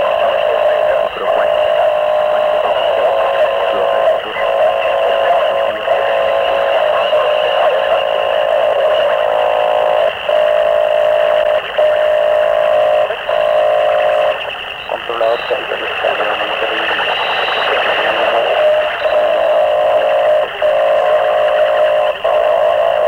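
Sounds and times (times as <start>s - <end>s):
distorted harsh noise drone: 0.0s - 23.0s.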